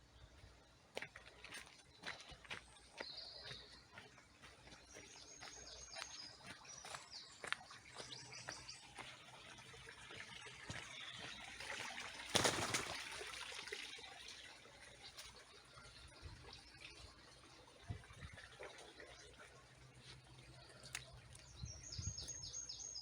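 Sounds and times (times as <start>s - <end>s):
small birds chirping: 0.0s - 13.0s, 14.7s - 23.0s
faint trickle of water: 0.1s - 22.6s.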